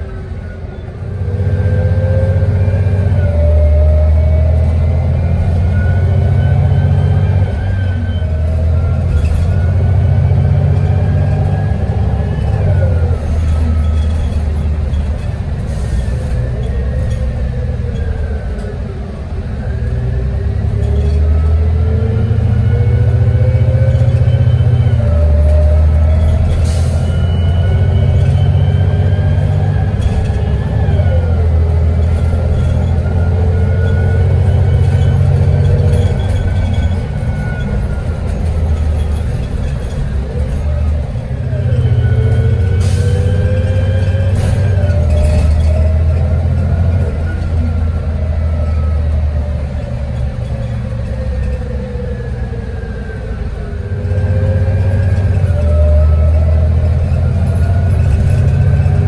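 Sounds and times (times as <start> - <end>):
bus engine rumble: 0.0 - 59.0
drivetrain whine: 0.0 - 59.0.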